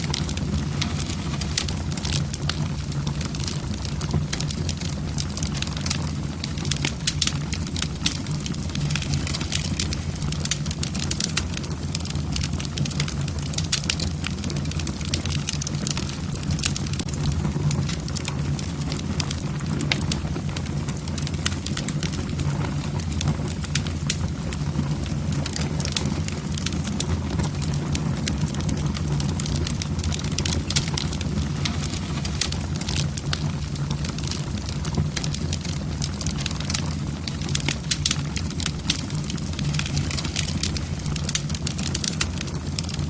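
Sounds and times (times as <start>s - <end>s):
wood fire crackling in fireplace: 0.0s - 43.0s.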